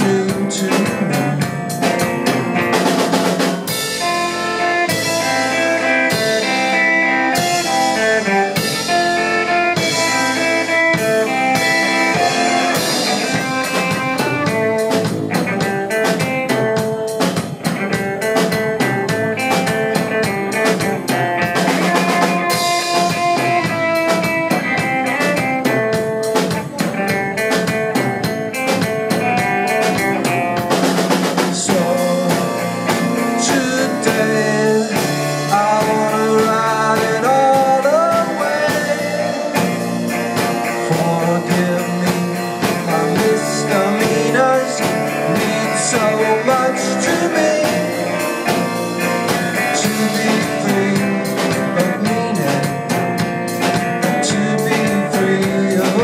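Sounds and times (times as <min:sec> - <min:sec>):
bending lead guitar line: 0:00.0 - 0:56.0
drum kit beat: 0:00.0 - 0:56.0
second guitar: 0:00.0 - 0:56.0
strummed acoustic guitar: 0:00.0 - 0:56.0.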